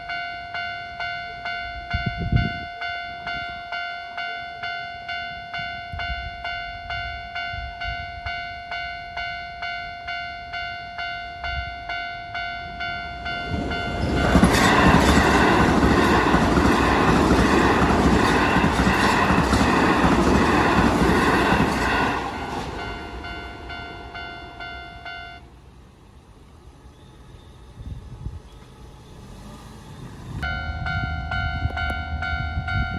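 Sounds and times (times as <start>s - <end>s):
level-crossing alarm ringing: 0.0s - 25.5s, 30.4s - 32.9s
electric train passing: 0.0s - 32.9s.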